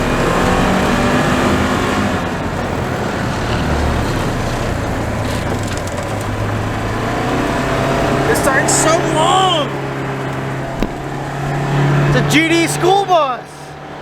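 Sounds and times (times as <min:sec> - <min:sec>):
vehicle engine under load: 0:00.0 - 0:14.0.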